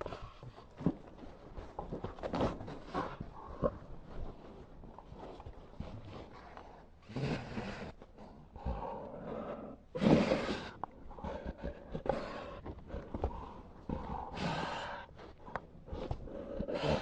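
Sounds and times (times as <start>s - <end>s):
dog breathing heavily and snorting: 0.0s - 17.0s.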